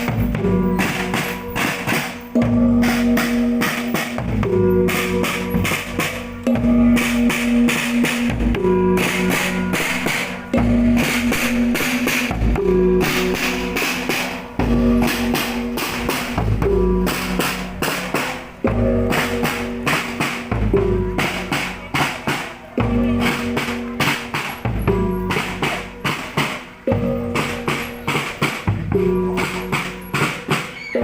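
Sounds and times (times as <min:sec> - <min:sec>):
music with steady drum beat: 0:00.0 - 0:31.0.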